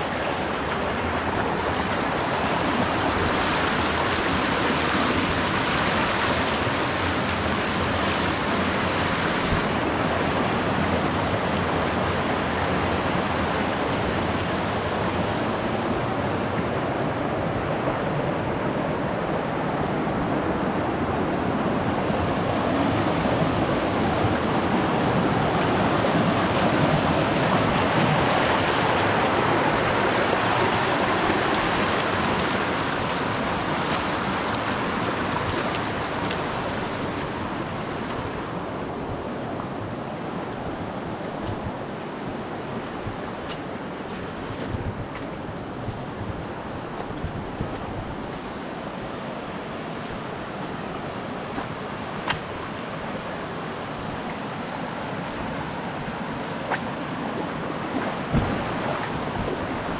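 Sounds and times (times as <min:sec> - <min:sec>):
creek rushing over stones: 0:00.0 - 0:59.9.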